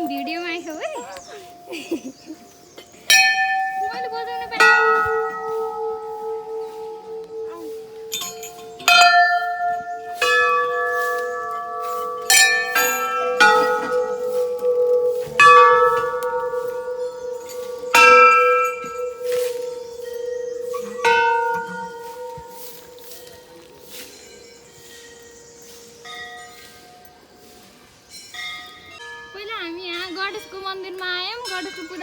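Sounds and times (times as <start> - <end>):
temple bells ringing: 0.0 - 32.0.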